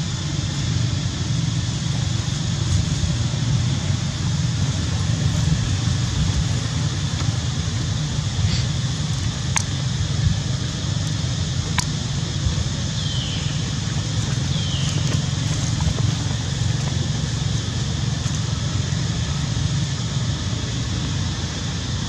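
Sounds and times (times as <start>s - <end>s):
outdoor rumble and hiss: 0.0s - 22.0s.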